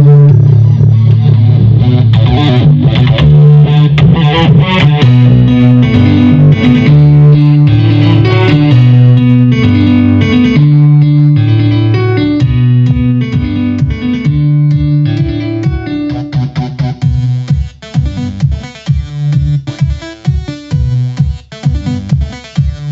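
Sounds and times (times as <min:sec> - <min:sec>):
guitar-led music on speakers: 0:00.0 - 0:22.9.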